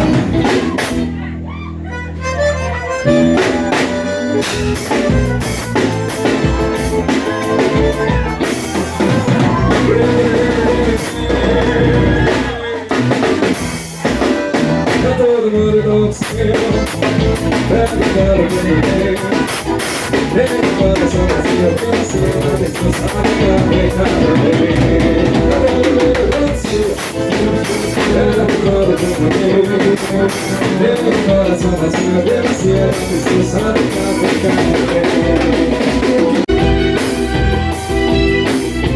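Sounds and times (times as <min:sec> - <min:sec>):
drum kit beat: 0:00.0 - 0:01.3, 0:03.0 - 0:38.9
forro band music: 0:00.0 - 0:38.9.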